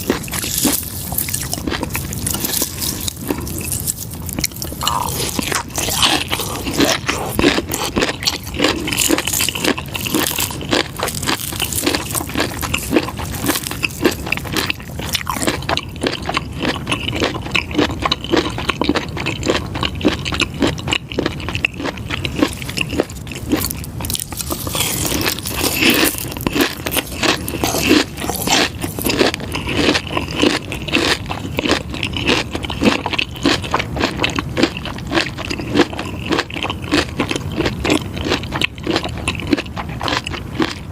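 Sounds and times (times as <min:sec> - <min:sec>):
crisp crunching while chewing: 0:00.0 - 0:40.9.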